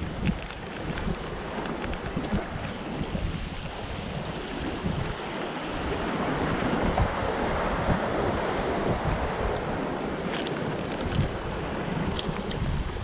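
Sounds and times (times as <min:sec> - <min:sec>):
waves washing on rocky shore: 0:00.0 - 0:13.0
wind buffeting microphone: 0:00.0 - 0:13.0.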